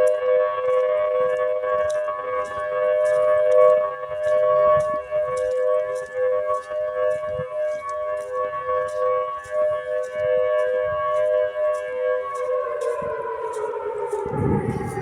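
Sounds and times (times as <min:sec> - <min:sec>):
two-note warning siren: 0:00.0 - 0:15.0.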